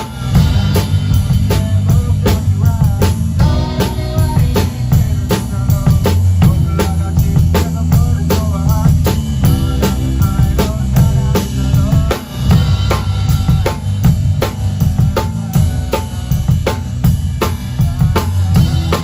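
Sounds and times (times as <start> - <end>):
heavy bass: 0.0 - 19.0
kick and snare drum beat: 0.0 - 19.0
live band playing instrumental: 0.0 - 19.0.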